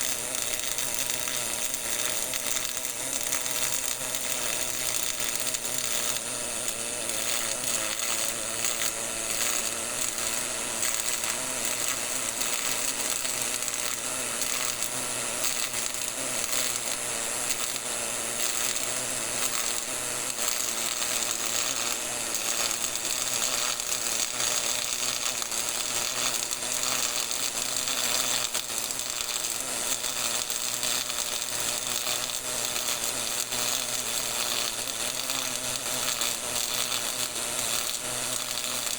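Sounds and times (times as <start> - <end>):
welding arc crackling buzz: 0.0 - 38.9.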